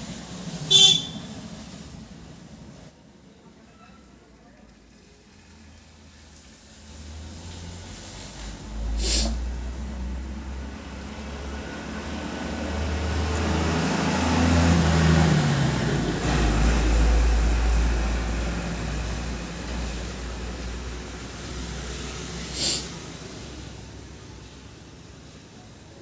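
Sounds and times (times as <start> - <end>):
passing vehicle engine rumble: 0.0 - 26.0.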